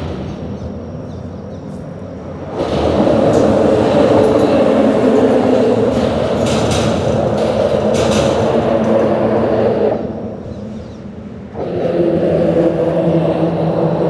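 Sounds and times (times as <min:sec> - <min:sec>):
loud steady rumble: 0:00.0 - 0:14.0
low hum: 0:00.0 - 0:14.0.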